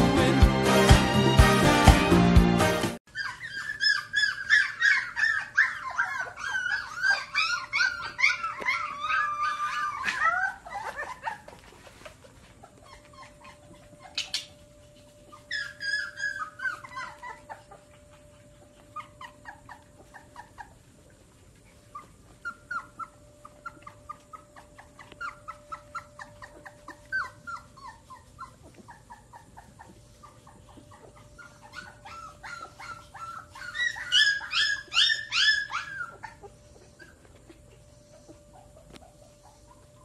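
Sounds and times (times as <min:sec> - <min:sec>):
puppies whimpering: 0:03.0 - 0:40.0.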